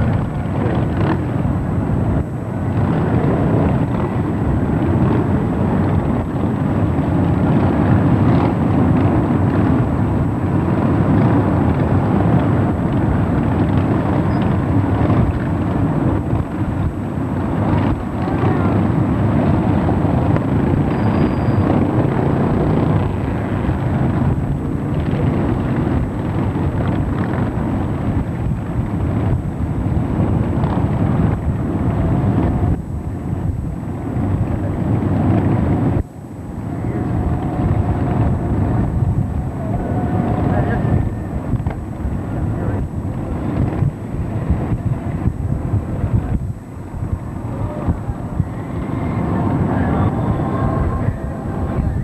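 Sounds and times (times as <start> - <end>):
motorcycle engines rumbling: 0.0 - 52.0.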